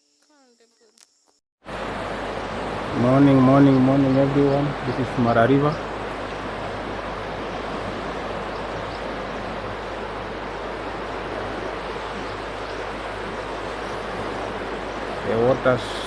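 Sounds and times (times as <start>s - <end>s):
floodwater rushing: 1.6s - 16.0s.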